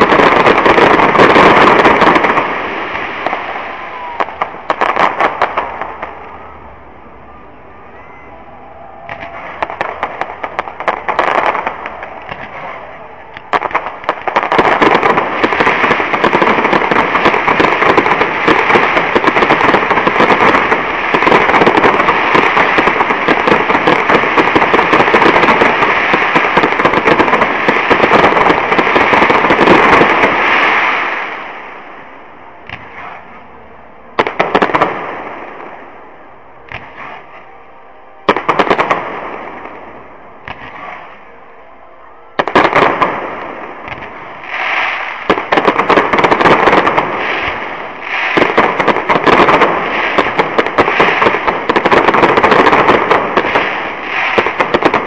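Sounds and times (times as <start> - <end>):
firework bangs: 0.0 - 6.6, 8.0 - 41.4, 42.4 - 55.0
fireworks crackling bursts: 0.0 - 7.2, 7.9 - 55.0.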